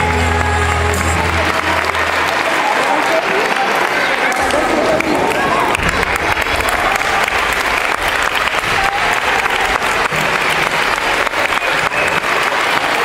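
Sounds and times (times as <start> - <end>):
audience applauding: 0.0 - 13.0
faint voices: 0.0 - 13.0.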